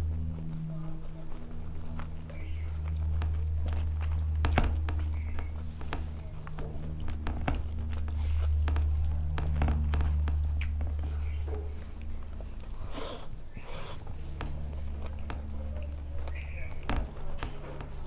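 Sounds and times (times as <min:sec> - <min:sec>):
chewing with clicks and smacks: 0:00.0 - 0:18.0
steady low hum: 0:00.0 - 0:18.0.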